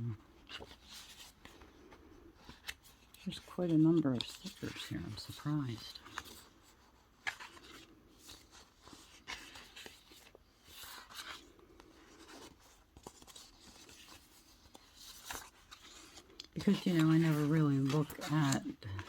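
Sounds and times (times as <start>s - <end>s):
paper and plastic crinkling: 0.0s - 19.0s.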